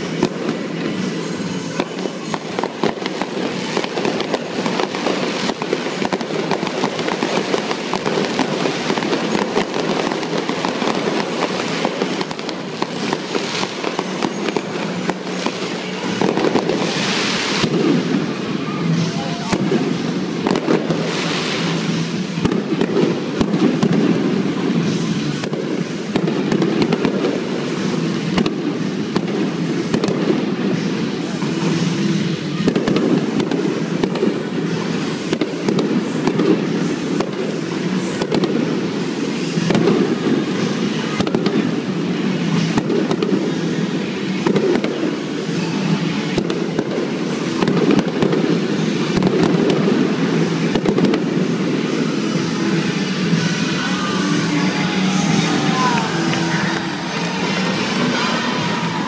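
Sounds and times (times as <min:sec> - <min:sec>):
fireworks bursting: 0:00.0 - 0:59.0
fireworks crackling: 0:00.0 - 0:59.0.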